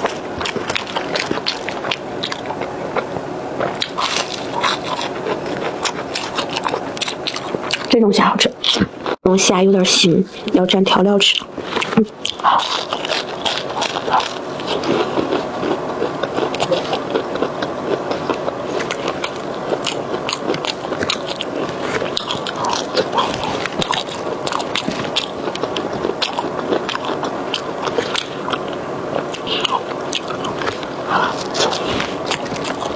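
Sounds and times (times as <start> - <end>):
chewing food: 0.0 - 9.2, 11.2 - 32.9.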